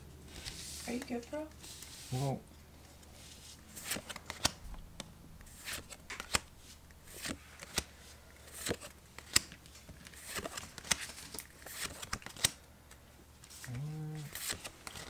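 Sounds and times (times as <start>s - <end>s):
cards swishing and snapping: 0.3s - 2.1s, 2.9s - 15.0s.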